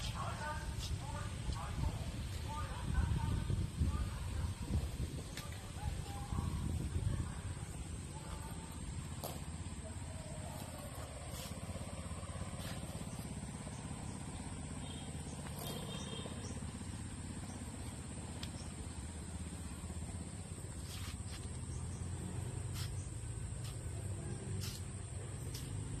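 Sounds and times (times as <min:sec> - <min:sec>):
motorbike engine running: 0:00.0 - 0:26.0.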